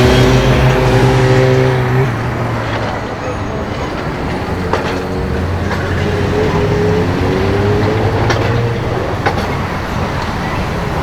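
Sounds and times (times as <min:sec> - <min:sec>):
car engine running at low revs: 0:00.0 - 0:09.6.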